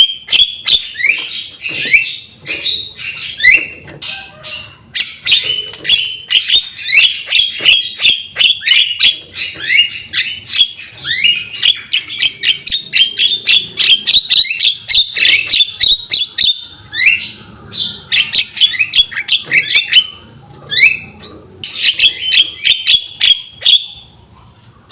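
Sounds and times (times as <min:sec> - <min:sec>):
myna chirping and squawking: 0:00.0 - 0:24.2.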